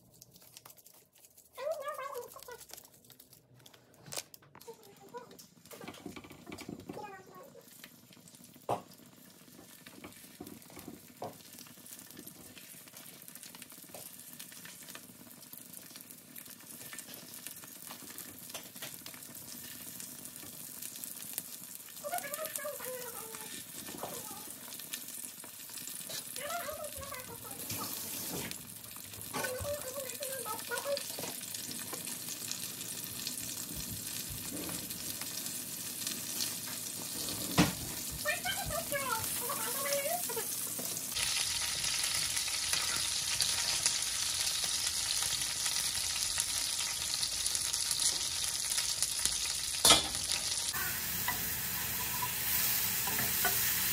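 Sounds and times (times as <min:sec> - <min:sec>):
food sizzling in a frying pan: 0:04.6 - 0:53.9.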